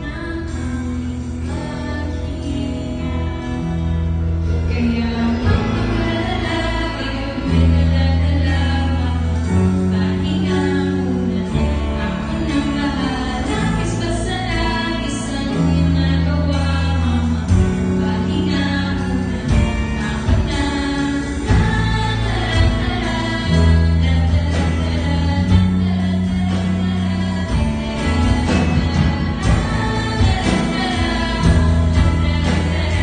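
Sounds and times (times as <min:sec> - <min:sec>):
woman singing: 0:00.0 - 0:03.8, 0:04.5 - 0:33.0
live band playing a ballad: 0:00.0 - 0:33.0
low bass notes: 0:00.0 - 0:33.0.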